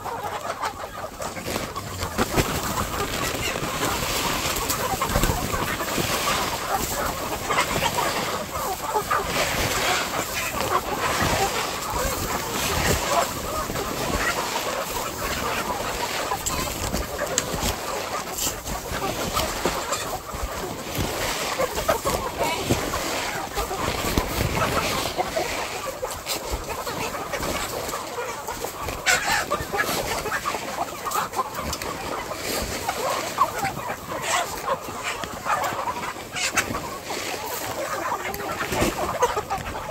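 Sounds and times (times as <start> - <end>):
birds shuffling rustle: 0.0 - 39.9
chickens clucking: 0.0 - 39.9.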